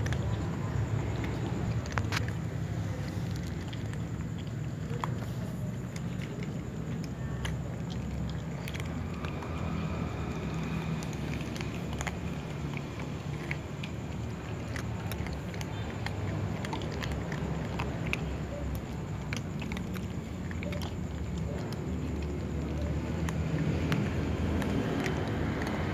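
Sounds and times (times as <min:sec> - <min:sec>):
cats crunching dry kibble: 0:00.0 - 0:25.9.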